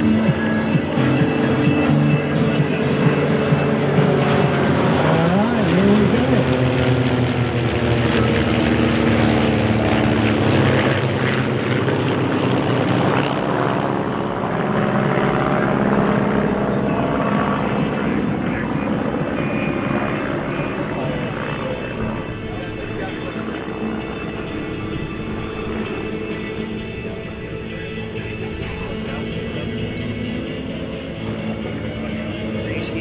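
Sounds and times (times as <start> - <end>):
propeller airplanes flying by: 0.0 - 33.0.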